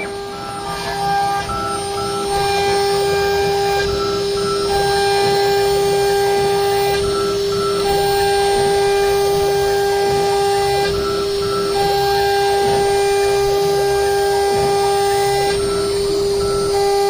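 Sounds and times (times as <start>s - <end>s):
axis drive motors: 0.0s - 17.0s
spindle high whine: 0.0s - 17.0s.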